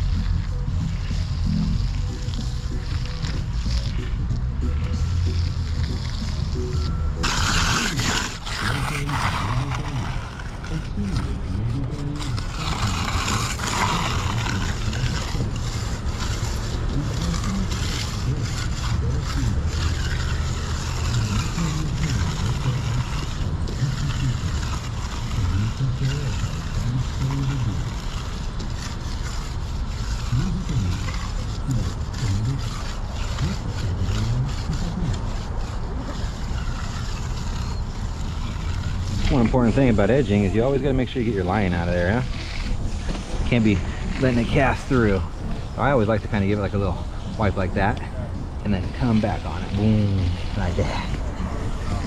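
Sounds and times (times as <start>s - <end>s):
faint voices: 0.0s - 52.0s
low mechanical rumble: 0.0s - 52.0s.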